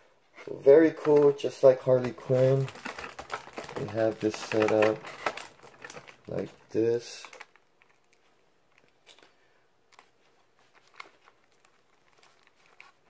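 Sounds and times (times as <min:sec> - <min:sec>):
plastic tray crinkling and ticking: 0:00.6 - 0:09.3, 0:09.9 - 0:13.0.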